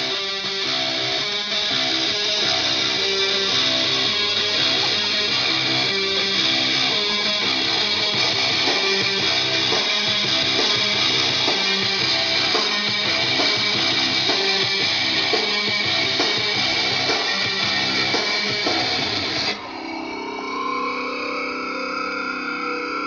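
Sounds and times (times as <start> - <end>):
rock music with drums and guitar: 0.0 - 19.7.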